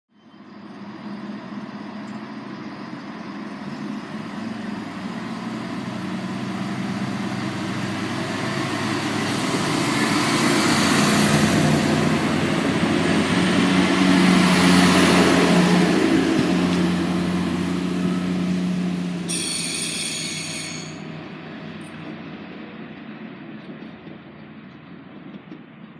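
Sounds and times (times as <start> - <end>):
train approaching: 0.2 - 25.9.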